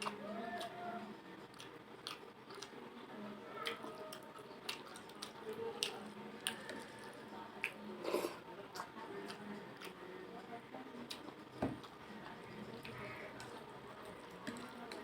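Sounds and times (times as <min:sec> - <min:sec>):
wet chewing: 0:00.0 - 0:00.8, 0:01.5 - 0:02.8, 0:03.6 - 0:10.1, 0:11.0 - 0:15.0.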